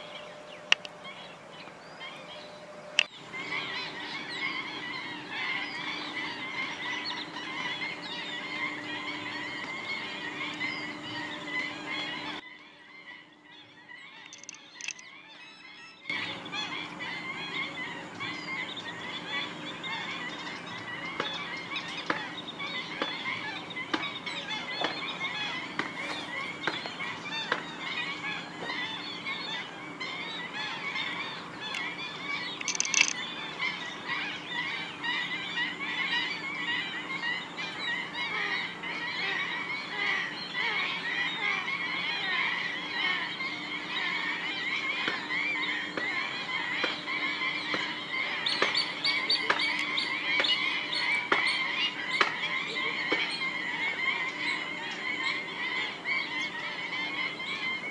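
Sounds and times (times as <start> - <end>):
flock of birds calling: 0.0 - 57.9.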